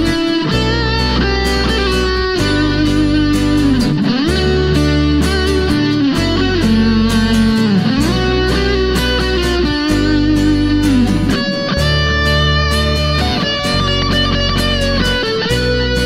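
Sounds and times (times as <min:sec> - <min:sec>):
acoustic guitar: 0:00.0 - 0:16.0
electric bass: 0:00.0 - 0:16.0
electric guitar: 0:00.0 - 0:16.0.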